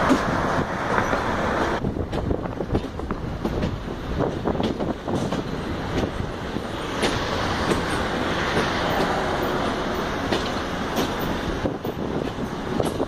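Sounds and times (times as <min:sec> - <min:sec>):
rushing noise: 0:00.0 - 0:13.0
wheels rumbling on rail: 0:00.0 - 0:13.0.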